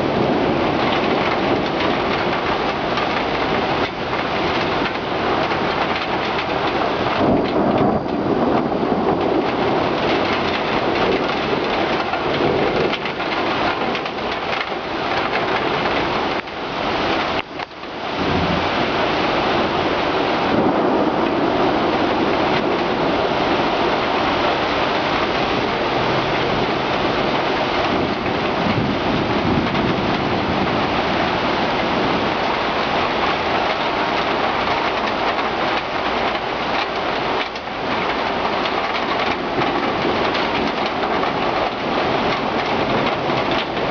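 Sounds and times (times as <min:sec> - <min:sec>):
heavy rain pouring: 0:00.0 - 0:43.9
thunder rumbling: 0:00.0 - 0:43.9.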